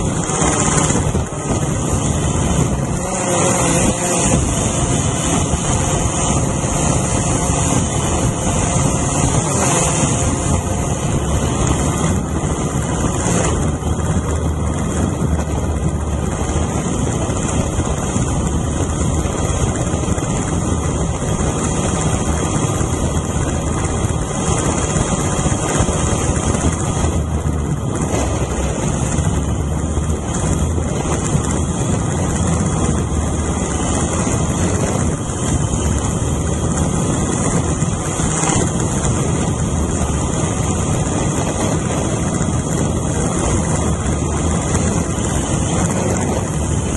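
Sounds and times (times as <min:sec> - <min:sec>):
drone propellers whirring: 0:00.0 - 0:46.9.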